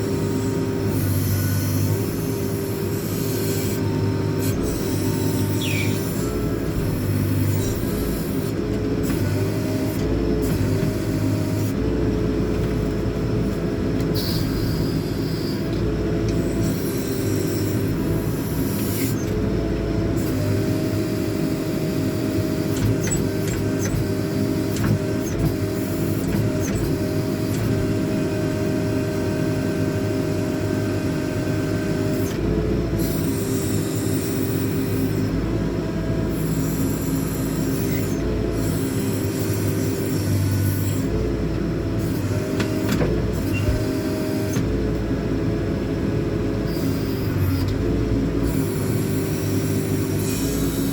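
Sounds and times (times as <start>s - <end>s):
hydraulics working: 0.0s - 45.1s
diesel engine running: 0.0s - 50.9s.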